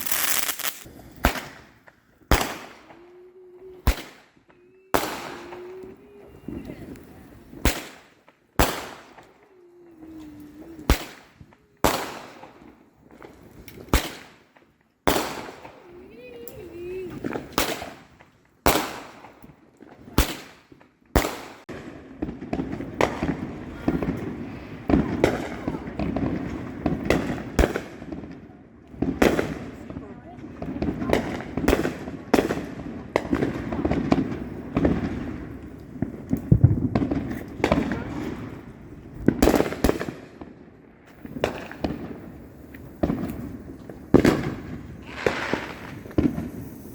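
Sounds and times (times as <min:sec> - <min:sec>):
fireworks bangs: 0:00.0 - 0:03.1, 0:03.7 - 0:09.4, 0:10.0 - 0:46.9.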